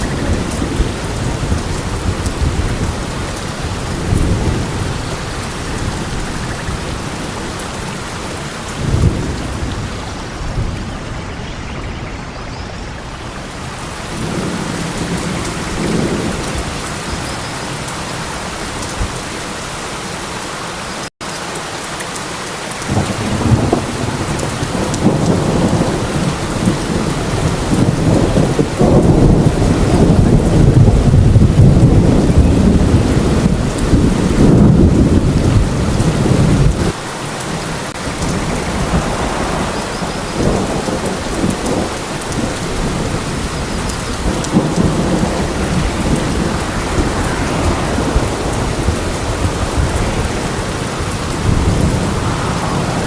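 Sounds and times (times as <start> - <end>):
rolling thunder: 0.0 - 12.2, 12.8 - 17.9, 22.9 - 37.0, 37.9 - 53.0
steady rain: 0.0 - 53.0.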